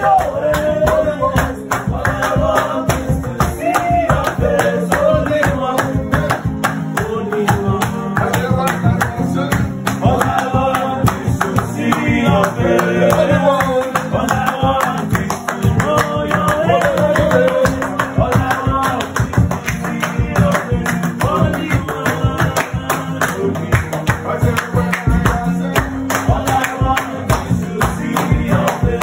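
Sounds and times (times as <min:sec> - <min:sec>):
guitar: 0:00.0 - 0:29.0
person singing: 0:00.0 - 0:29.0
quick steady beat: 0:00.0 - 0:29.0.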